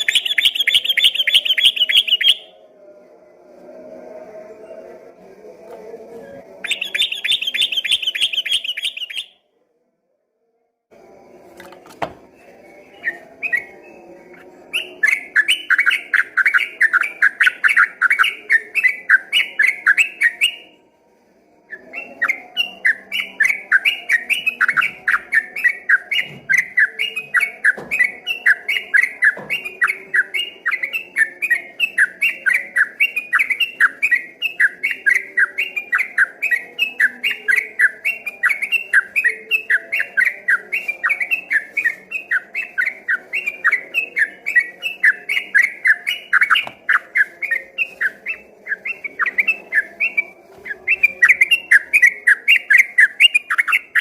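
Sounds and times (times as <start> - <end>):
bulbul singing: 0.0 - 2.7, 5.7 - 9.4, 11.6 - 20.9, 21.6 - 54.0.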